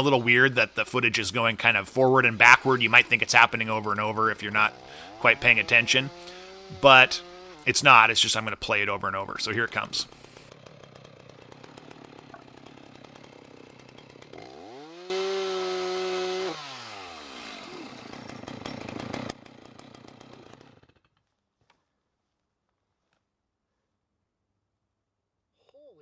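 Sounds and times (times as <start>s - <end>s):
chainsaw running and revving: 0.0s - 21.2s.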